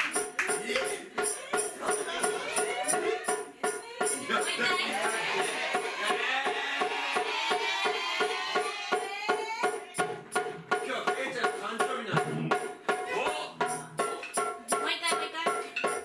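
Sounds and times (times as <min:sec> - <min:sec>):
drum strikes: 0:00.0 - 0:16.0.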